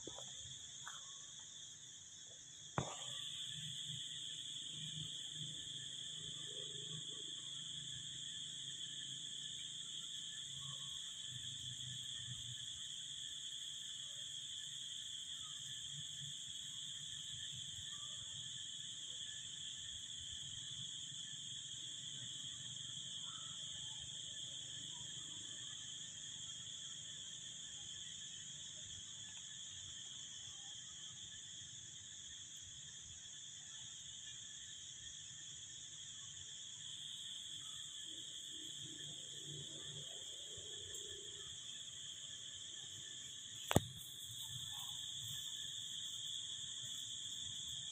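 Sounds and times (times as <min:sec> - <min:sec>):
insect chorus: 0:00.0 - 0:47.9.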